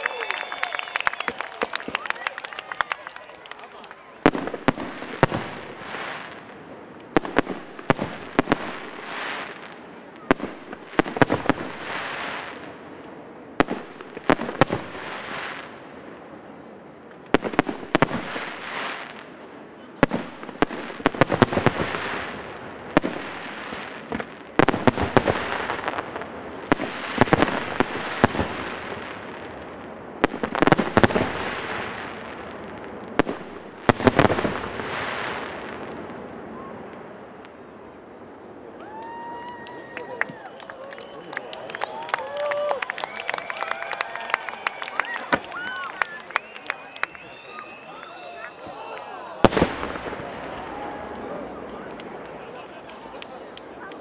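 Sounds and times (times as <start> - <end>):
fireworks crackling and fizzing: 0.0 - 54.0.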